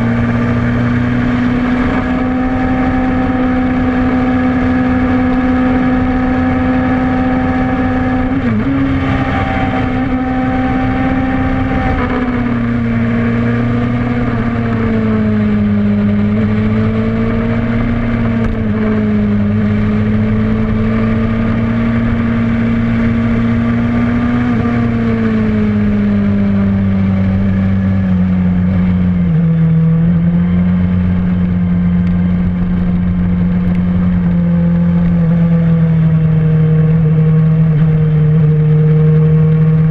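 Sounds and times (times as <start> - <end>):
motorcycle engine running high: 0.0 - 39.9.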